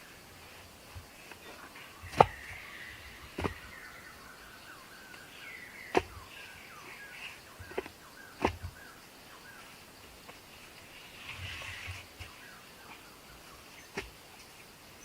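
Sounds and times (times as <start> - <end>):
birds chirping: 1.2 - 15.0.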